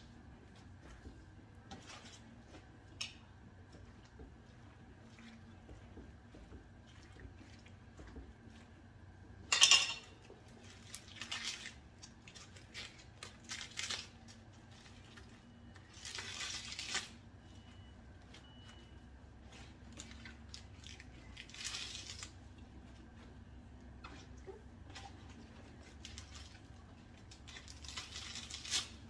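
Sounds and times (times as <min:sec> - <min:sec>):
wet leaves rustling and dripping: 0:01.6 - 0:08.9, 0:10.0 - 0:23.3, 0:24.1 - 0:29.0.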